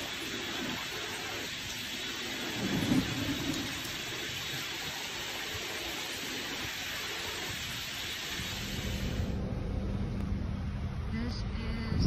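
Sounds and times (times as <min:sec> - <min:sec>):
heavy rain pouring: 0:00.0 - 0:09.8
thunder rumble: 0:00.0 - 0:11.2.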